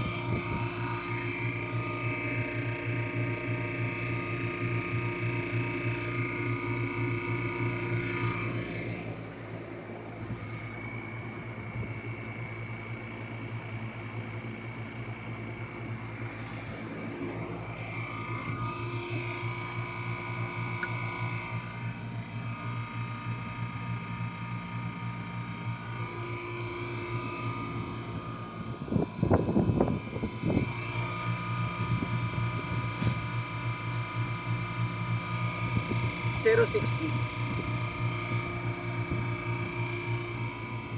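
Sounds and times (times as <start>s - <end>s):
compressor humming: 0.0s - 40.9s
faint steady whine: 0.0s - 40.9s.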